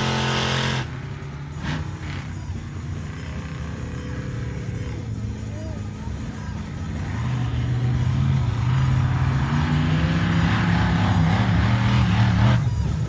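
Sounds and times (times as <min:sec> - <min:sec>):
monster truck engine running hard: 0:00.0 - 0:13.0.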